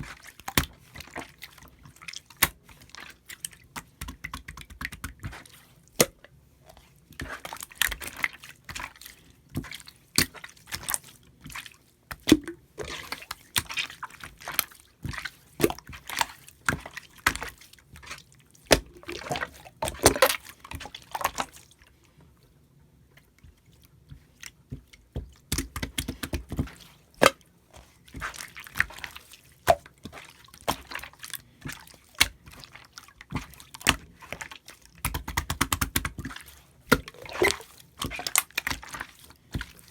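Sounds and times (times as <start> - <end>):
slime squishing with wet clicks: 0.0 - 39.9.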